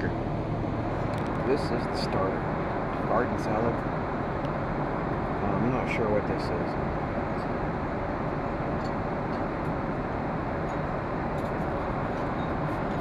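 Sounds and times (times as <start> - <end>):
airliner cabin noise: 0.0 - 13.0.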